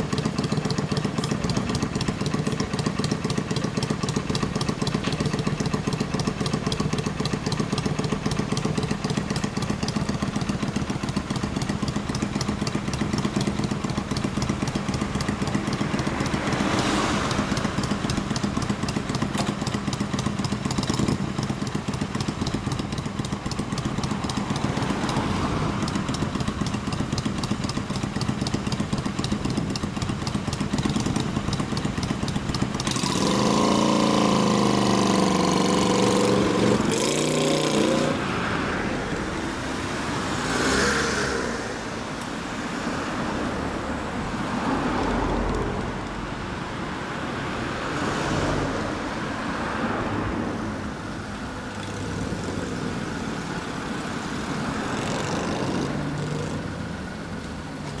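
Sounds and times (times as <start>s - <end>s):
motorcycle engine idling and revving: 0.0s - 58.0s
road traffic with passing cars: 0.0s - 58.0s.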